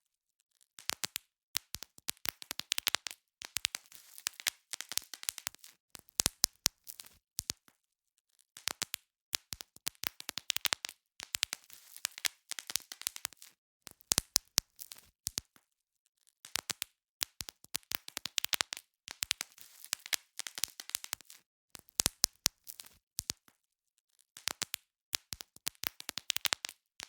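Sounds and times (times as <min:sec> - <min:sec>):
bubble wrap popping: 0:00.8 - 0:07.6, 0:08.6 - 0:15.5, 0:16.5 - 0:23.5, 0:24.4 - 0:26.9.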